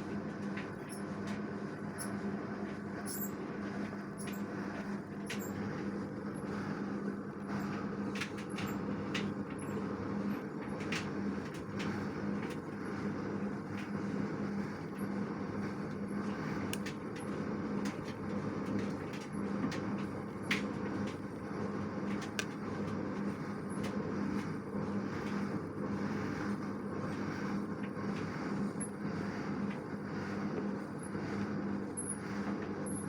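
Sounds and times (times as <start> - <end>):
washing machine hum: 0.0 - 33.0.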